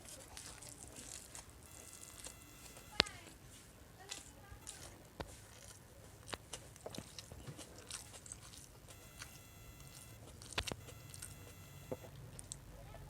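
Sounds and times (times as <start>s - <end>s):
chewing and biting food: 0.0s - 3.1s, 4.1s - 12.7s.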